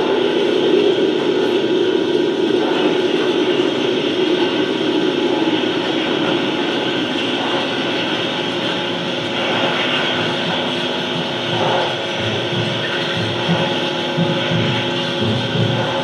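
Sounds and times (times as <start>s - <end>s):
droning film soundtrack over loudspeakers: 0.0s - 16.0s.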